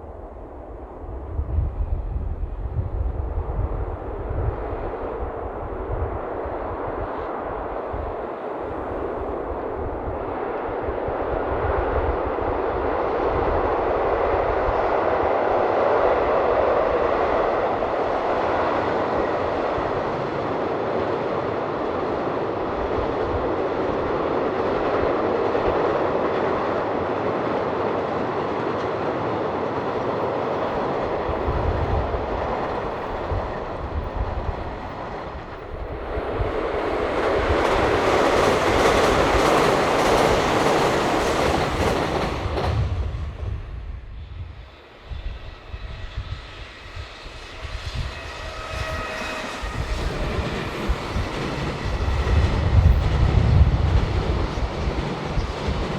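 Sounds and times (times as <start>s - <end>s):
electric train passing: 0.0s - 55.9s.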